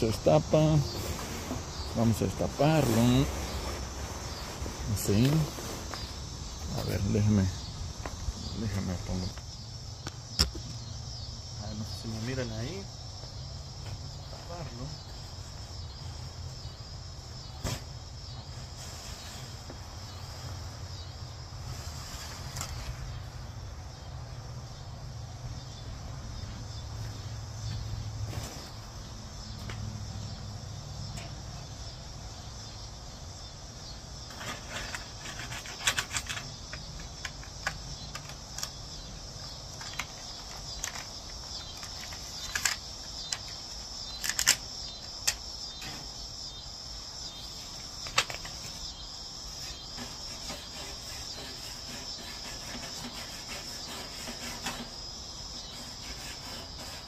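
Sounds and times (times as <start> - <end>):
insect trilling: 0.0 - 18.5, 28.6 - 57.0.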